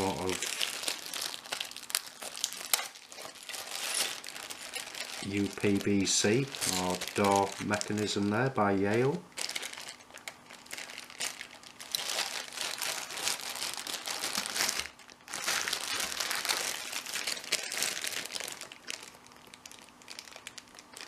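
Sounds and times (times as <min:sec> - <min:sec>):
packaging crumpling: 0:00.0 - 0:21.0.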